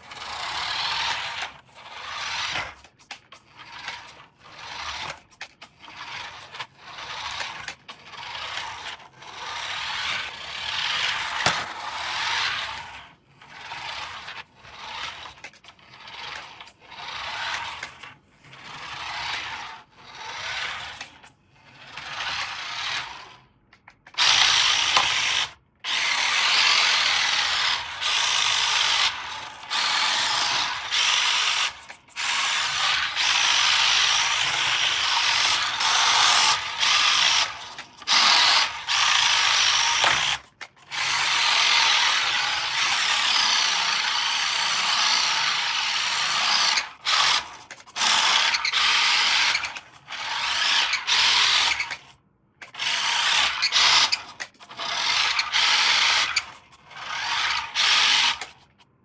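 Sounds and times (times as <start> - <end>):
toy electric motor whirring: 0.0 - 58.9.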